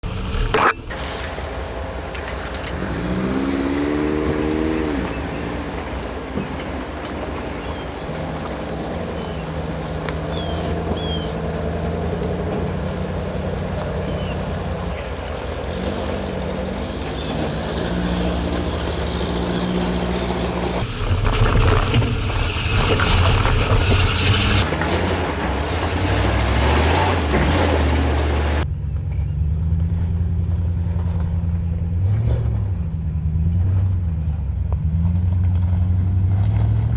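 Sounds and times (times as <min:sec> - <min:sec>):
suv engines revving: 0:00.0 - 0:36.9.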